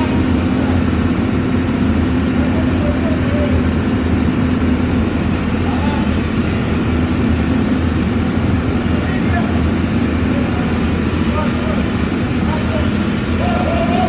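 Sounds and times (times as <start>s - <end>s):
motor humming steadily: 0.0s - 14.0s.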